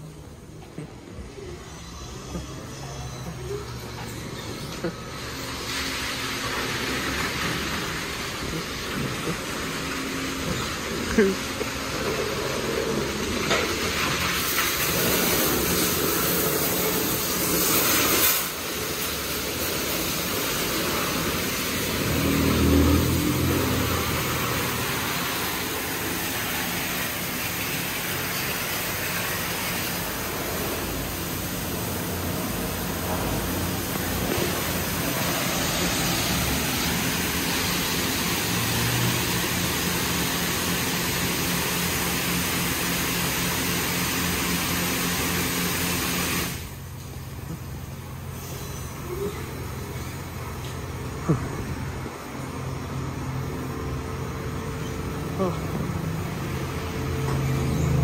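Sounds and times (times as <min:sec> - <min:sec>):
car wash brushes spinning: 0:00.0 - 0:58.0
wash machinery humming: 0:00.0 - 0:58.0
water spray hissing: 0:01.4 - 0:58.0.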